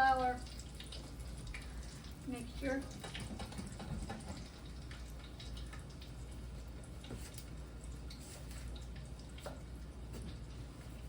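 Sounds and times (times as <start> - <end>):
oil sizzling in a deep fryer: 0.0 - 11.0.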